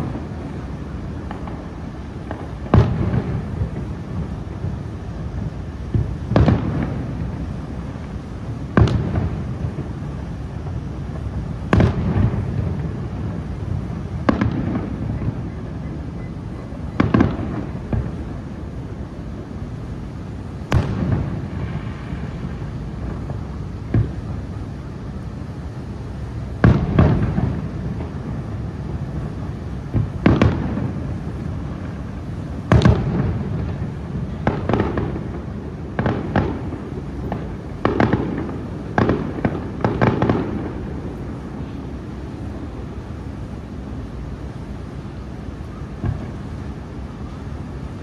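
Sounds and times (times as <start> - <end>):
firework bangs: 0.0 - 43.6, 44.9 - 48.0
firework crackle: 0.0 - 48.0.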